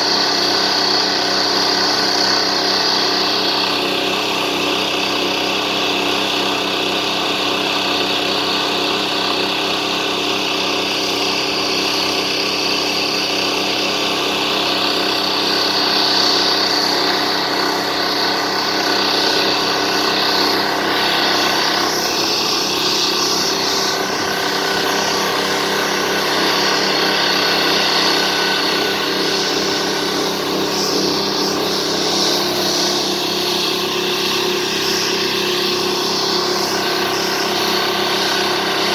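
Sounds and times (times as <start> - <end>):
washing cart engine running: 0.0 - 38.9.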